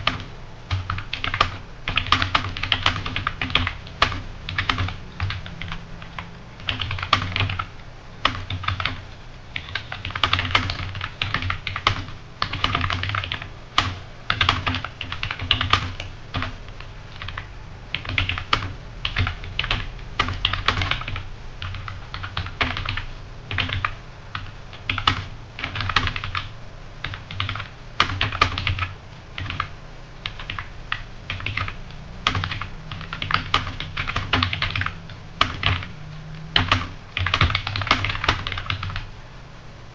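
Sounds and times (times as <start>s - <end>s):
fast keyboard typing: 0.0s - 39.1s.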